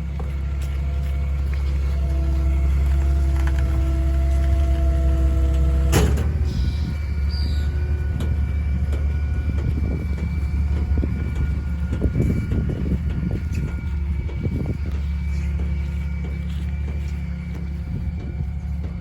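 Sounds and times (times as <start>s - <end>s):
hydraulic whine: 0.0s - 19.0s
truck engine rumble: 0.0s - 19.0s.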